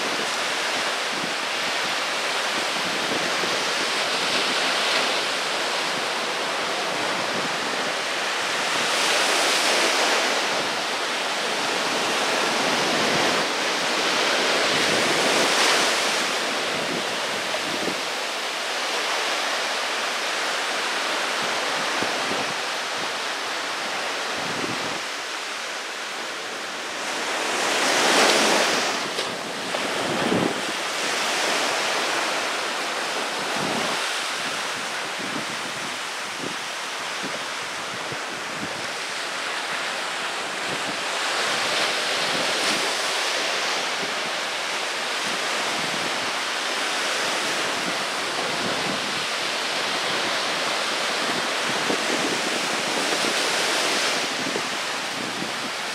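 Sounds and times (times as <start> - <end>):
waves breaking on beach: 0.0 - 55.9.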